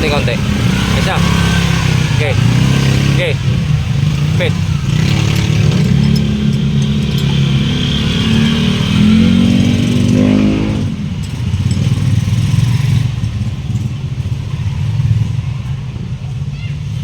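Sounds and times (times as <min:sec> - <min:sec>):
engine revving and idling: 0:00.0 - 0:16.9.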